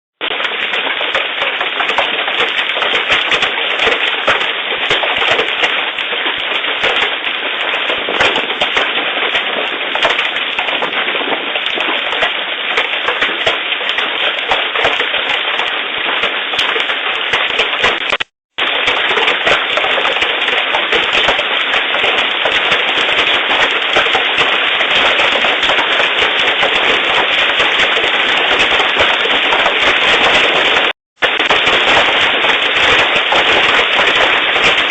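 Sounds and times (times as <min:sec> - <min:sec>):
large hailstones clattering: 0:00.2 - 0:34.9.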